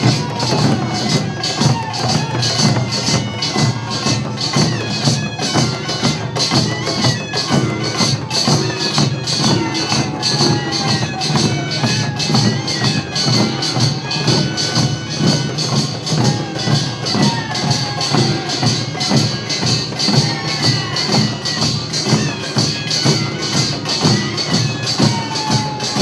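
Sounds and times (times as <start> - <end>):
drums and gongs beating: 0.0 - 26.0.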